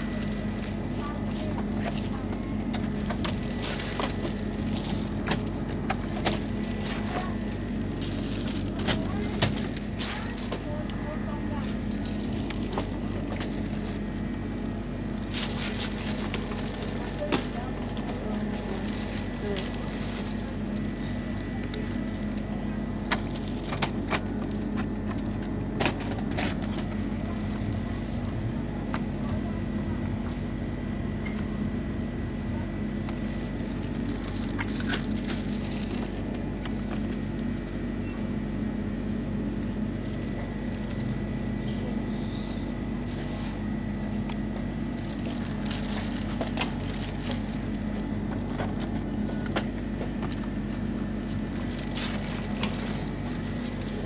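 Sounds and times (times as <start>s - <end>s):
refrigerator electrical hum: 0.0s - 54.0s.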